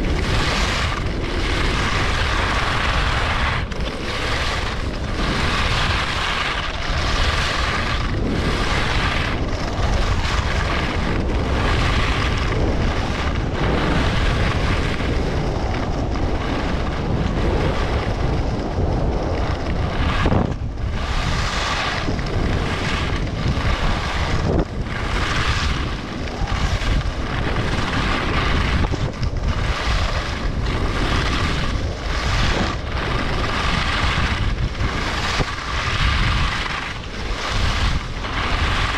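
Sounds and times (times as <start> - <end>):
skis scraping across snow: 0.0 - 38.9
wind buffeting microphone: 0.0 - 38.9.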